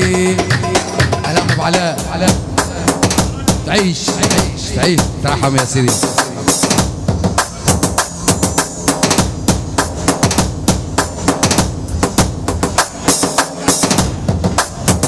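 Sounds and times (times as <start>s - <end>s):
drums playing fast rhythm: 0.0s - 15.0s.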